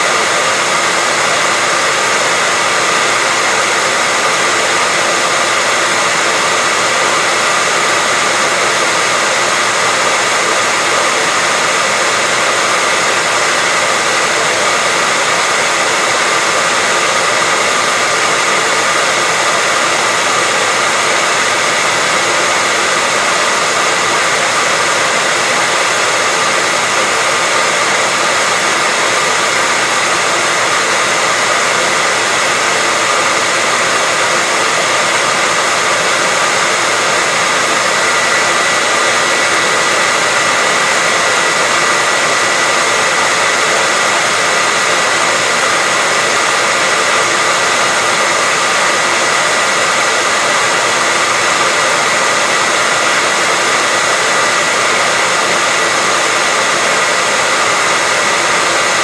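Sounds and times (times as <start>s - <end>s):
hairdryer running: 0.0s - 59.0s.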